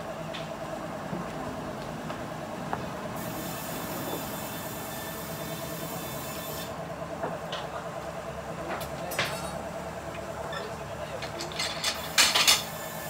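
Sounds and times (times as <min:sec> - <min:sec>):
sawmill drive running: 0:00.0 - 0:13.0.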